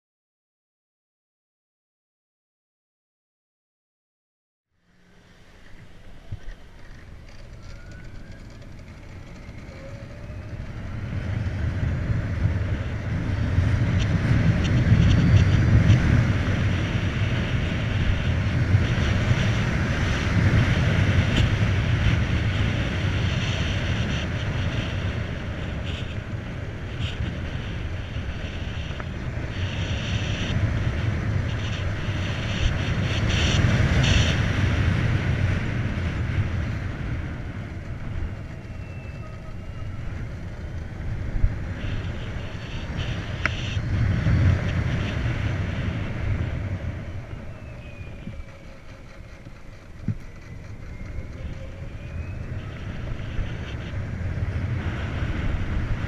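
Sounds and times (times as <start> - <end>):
road noise: 4.7 - 56.0
wind buffeting microphone: 5.1 - 56.0.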